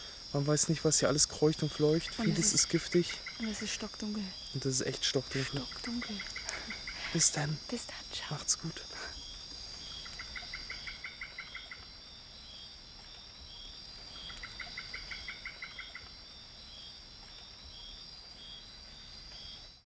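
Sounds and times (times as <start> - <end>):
high insect drone: 0.0 - 19.8
soft regular chirps: 0.1 - 16.2.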